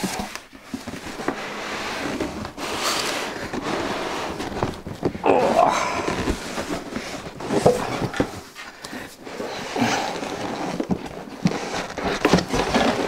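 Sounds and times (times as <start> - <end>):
cardboard flaps rustling: 0.0 - 13.0
cardboard scraping and rubbing: 0.0 - 13.0.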